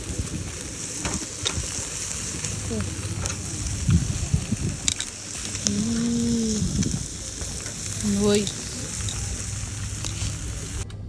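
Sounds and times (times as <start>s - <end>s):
meat sizzling on grill: 0.0s - 10.8s.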